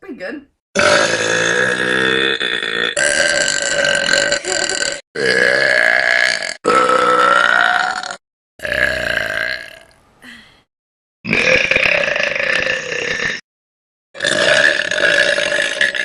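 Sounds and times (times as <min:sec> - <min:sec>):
women burping loudly: 0:00.8 - 0:10.4, 0:11.2 - 0:13.4, 0:14.2 - 0:16.0.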